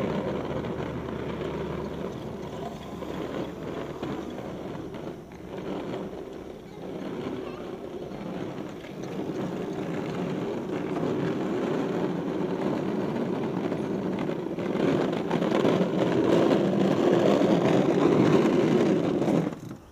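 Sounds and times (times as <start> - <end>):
plastic wheels rolling on asphalt: 0.0 - 19.9.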